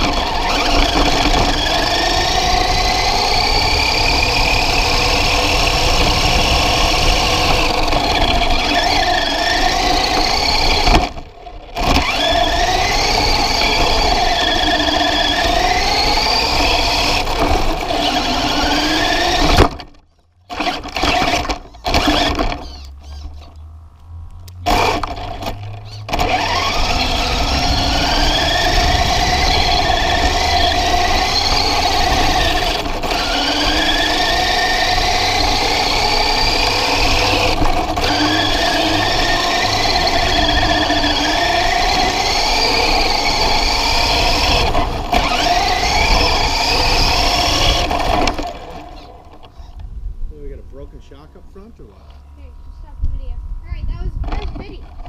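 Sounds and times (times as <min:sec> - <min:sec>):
toy car motor whining: 0:00.0 - 0:23.6, 0:24.6 - 0:49.9.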